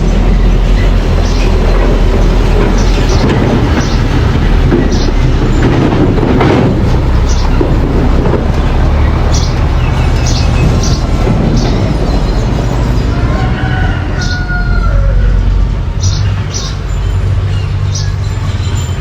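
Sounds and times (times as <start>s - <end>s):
bulldozer engine drone: 0.0s - 19.0s.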